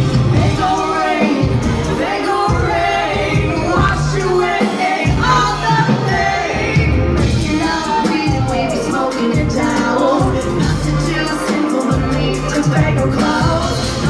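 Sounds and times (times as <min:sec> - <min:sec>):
heavy bass notes: 0:00.0 - 0:14.0
live band music: 0:00.0 - 0:14.0.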